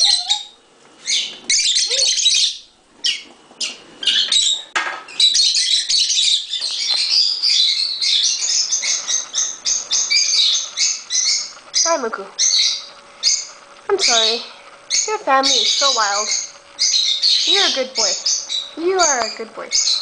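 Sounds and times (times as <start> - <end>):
lovebirds chirping and squawking: 0.0 - 20.0.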